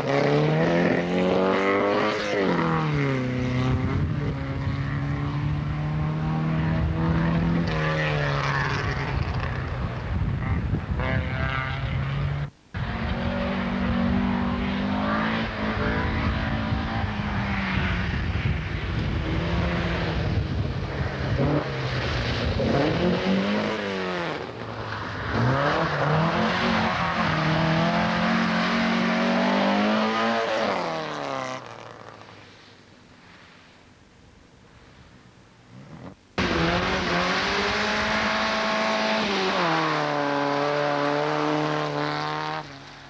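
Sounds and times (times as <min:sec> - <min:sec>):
rally car engines revving: 0:00.0 - 0:32.4, 0:35.7 - 0:43.0.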